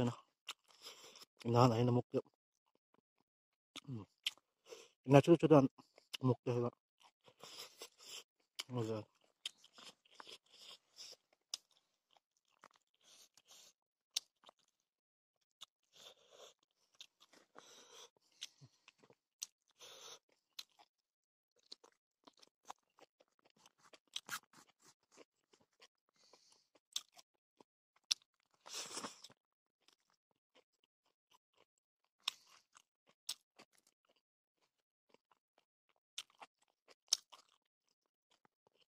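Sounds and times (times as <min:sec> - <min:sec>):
person chewing: 0:00.4 - 0:01.4, 0:03.8 - 0:05.0, 0:07.0 - 0:14.8, 0:15.6 - 0:20.9, 0:21.6 - 0:38.9.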